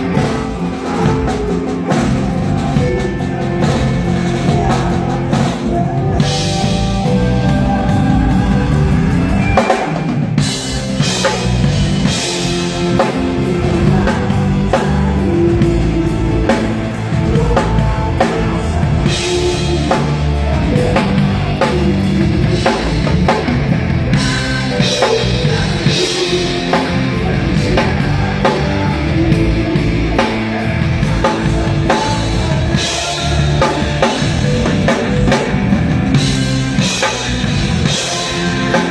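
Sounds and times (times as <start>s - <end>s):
drum kit playing: 0.0s - 38.9s
rock song with singing: 0.0s - 38.9s.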